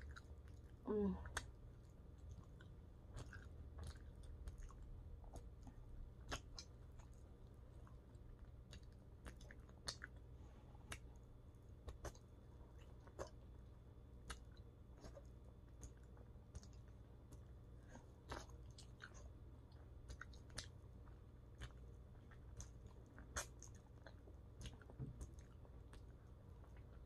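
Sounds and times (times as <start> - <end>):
chewing and lip-smacking: 0.0 - 27.0
low steady hum: 0.0 - 27.0.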